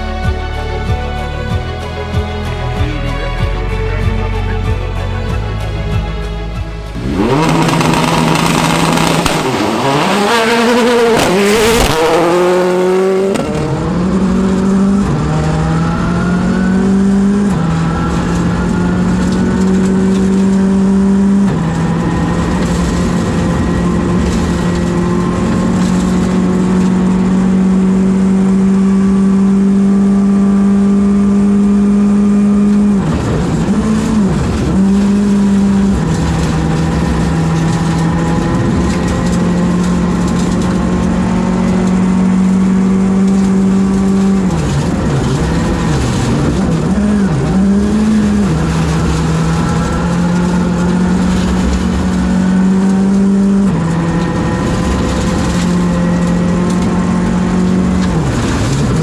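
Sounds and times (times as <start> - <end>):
rally car engine revving: 6.9 - 59.0.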